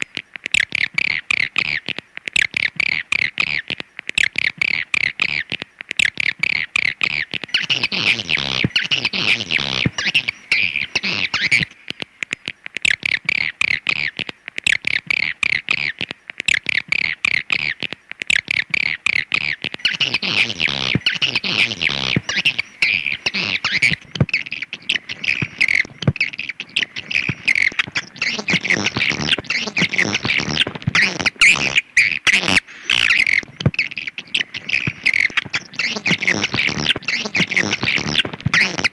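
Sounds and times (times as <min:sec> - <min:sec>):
recorded bird chirps and twitters: 0:00.0 - 0:38.9.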